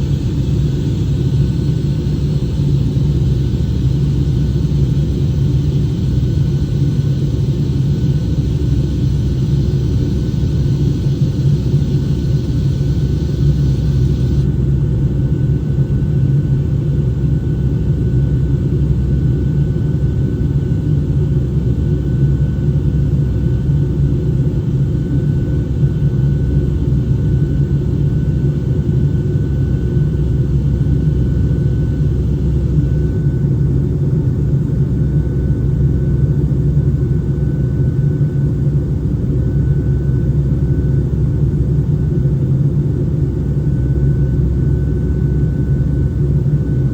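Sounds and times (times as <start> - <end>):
airplane cabin rumble in flight: 0.0 - 46.9
faint steady whine: 0.0 - 46.9.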